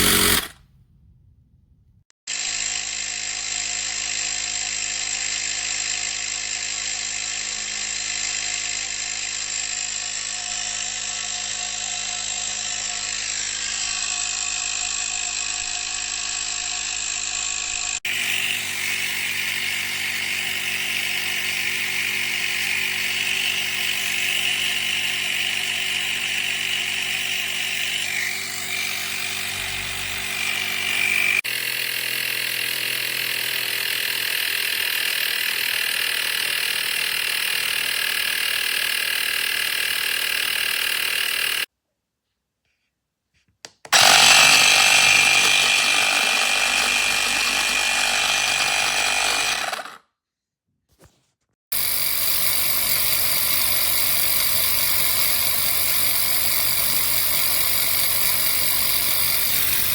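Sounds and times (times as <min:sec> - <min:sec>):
electric tyre inflator running: 0:00.0 - 0:00.6, 0:02.3 - 0:41.7, 0:43.9 - 0:50.0, 0:51.7 - 0:59.9.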